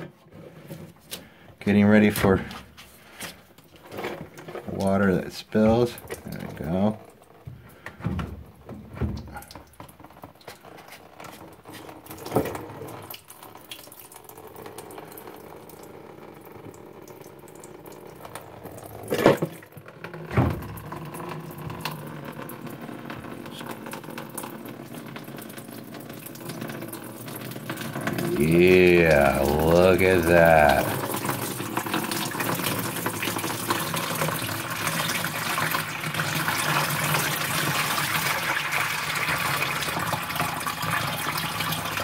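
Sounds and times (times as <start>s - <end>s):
water pouring into a bucket: 0.6s - 42.0s.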